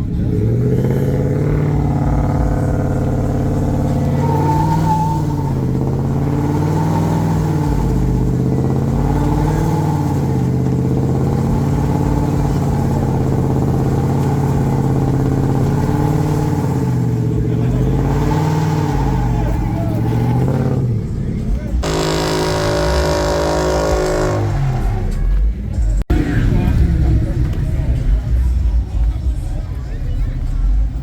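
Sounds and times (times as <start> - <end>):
engine at high revs: 0.0 - 28.5.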